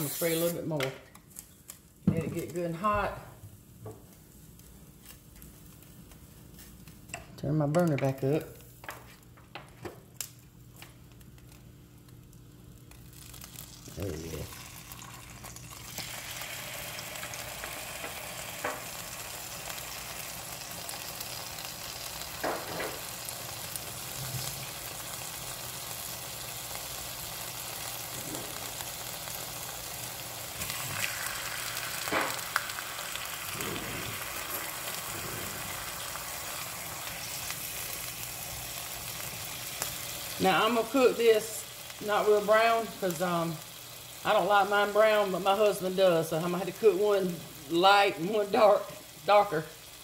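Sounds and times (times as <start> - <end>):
ham sizzling in a pan: 0.0 - 7.2, 8.0 - 50.0.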